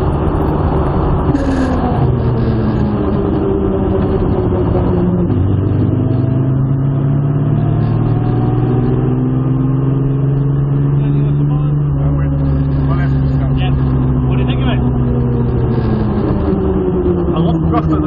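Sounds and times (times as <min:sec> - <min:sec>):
car engine accelerating: 0:00.0 - 0:18.0
road and drivetrain noise: 0:00.0 - 0:18.0.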